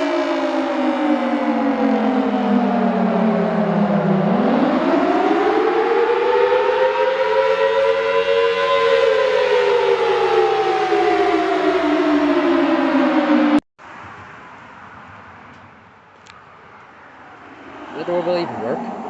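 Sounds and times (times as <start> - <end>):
warning siren wailing: 0.0 - 13.6, 16.4 - 19.0.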